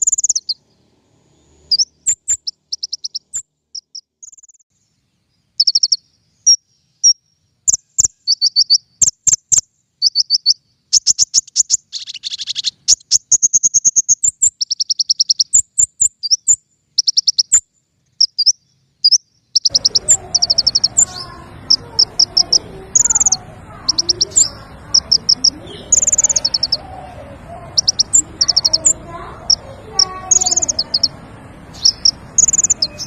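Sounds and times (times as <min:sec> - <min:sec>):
bird chirps and trills: 0:00.0 - 0:33.0.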